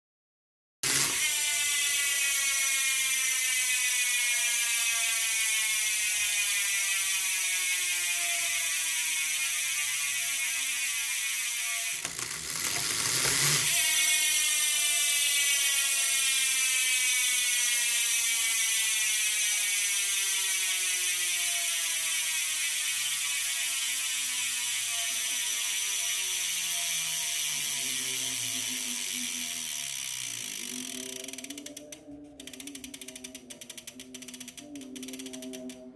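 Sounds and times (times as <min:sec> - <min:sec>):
bicycle hub ratcheting buzz: 0:00.8 - 0:35.9.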